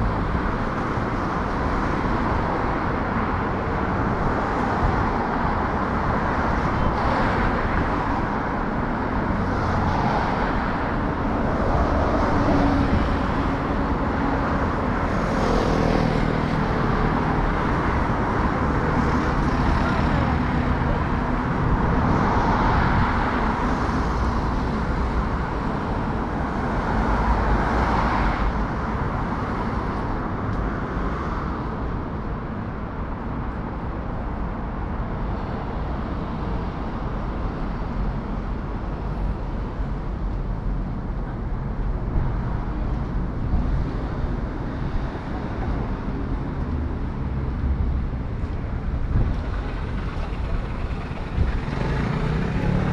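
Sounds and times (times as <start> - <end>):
cars passing: 0.0 - 52.9
city street traffic: 0.0 - 52.9.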